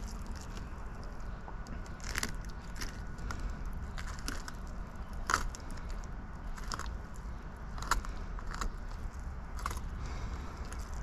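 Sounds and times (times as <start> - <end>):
knife crunching through scaly skin: 0.0 - 11.0.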